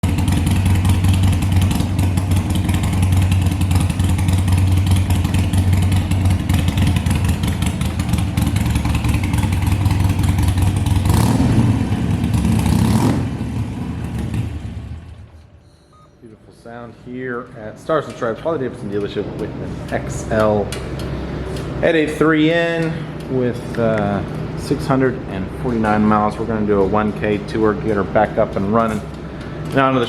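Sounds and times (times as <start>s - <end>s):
motorcycle engine idling and revving: 0.0s - 15.5s, 18.1s - 30.0s.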